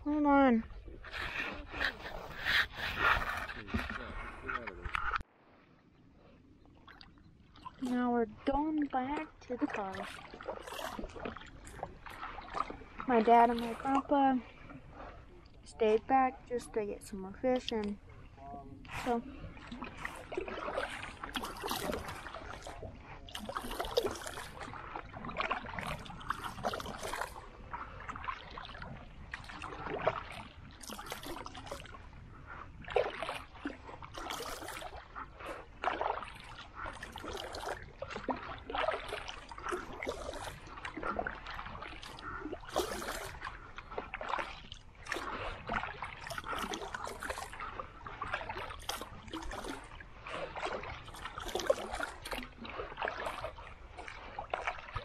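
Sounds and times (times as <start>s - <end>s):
paddle stroke splashes: 0.0s - 5.6s, 6.7s - 55.0s
water splashing against a boat: 0.0s - 55.0s.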